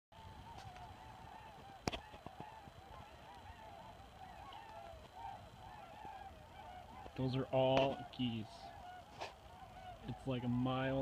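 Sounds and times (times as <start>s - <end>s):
geese honking: 0.1s - 11.0s.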